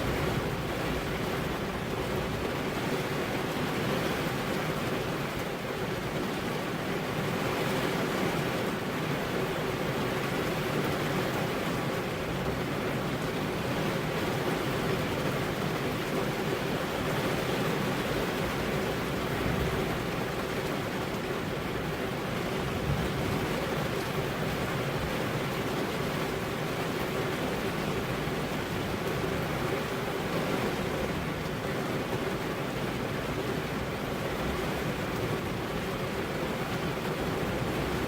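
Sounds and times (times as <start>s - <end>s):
rain on window glass: 0.0s - 38.0s.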